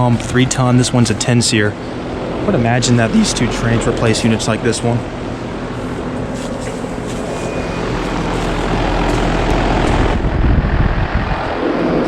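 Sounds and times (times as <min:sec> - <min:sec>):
compressor hum: 0:00.0 - 0:11.5
condenser fans rushing air: 0:00.0 - 0:12.0.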